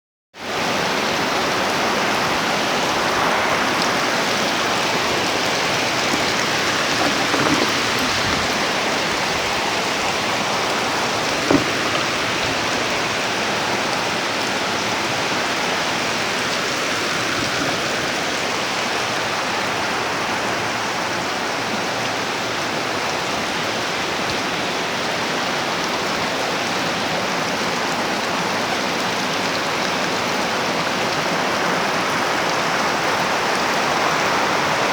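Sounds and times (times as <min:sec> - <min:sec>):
rain pattering: 0:00.4 - 0:34.9.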